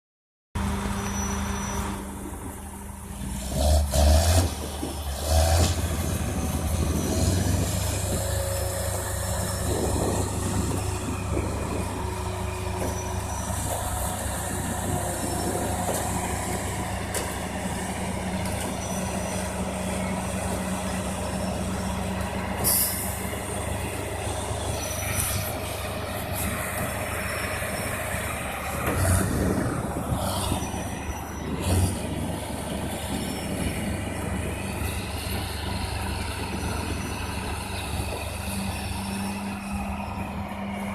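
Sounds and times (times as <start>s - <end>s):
tractor engine running: 0.6s - 40.9s.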